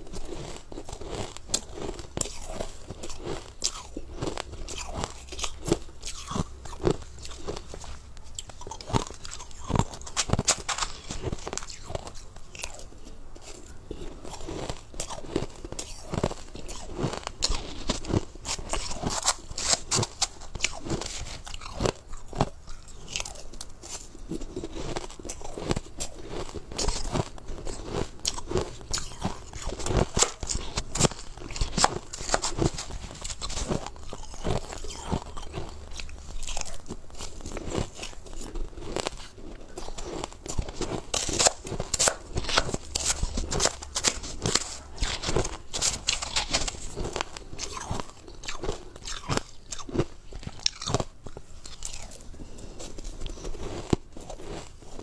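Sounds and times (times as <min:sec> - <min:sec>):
ice crunching while chewed: 0:00.0 - 0:55.0.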